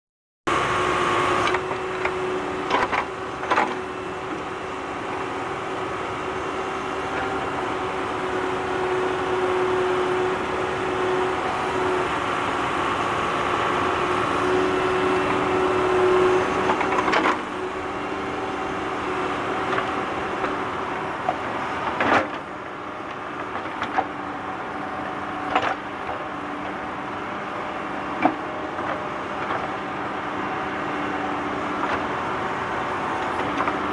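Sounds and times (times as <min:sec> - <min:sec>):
tractor engine running: 0:00.5 - 0:33.9.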